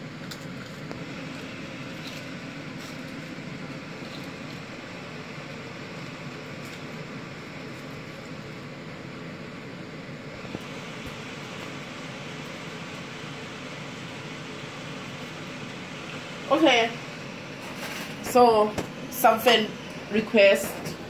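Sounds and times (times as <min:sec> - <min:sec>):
fan running: 0:00.0 - 0:21.0.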